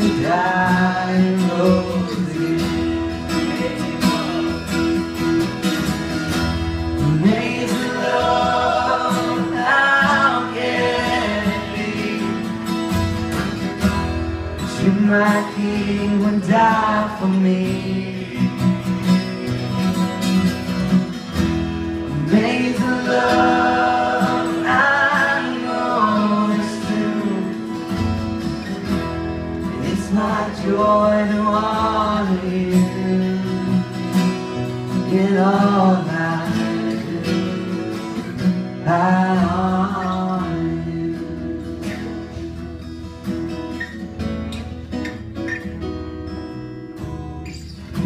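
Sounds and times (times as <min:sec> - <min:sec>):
acoustic guitars strumming: 0:00.0 - 0:48.0.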